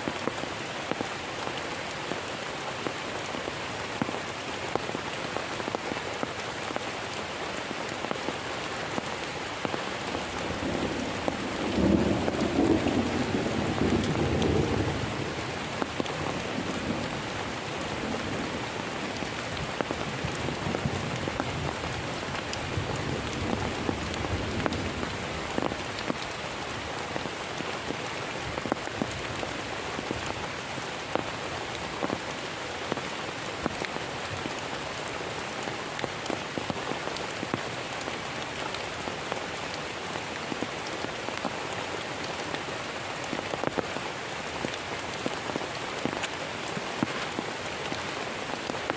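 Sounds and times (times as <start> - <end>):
heavy rain falling: 0.0 - 48.9
raindrops striking close by: 0.0 - 48.9.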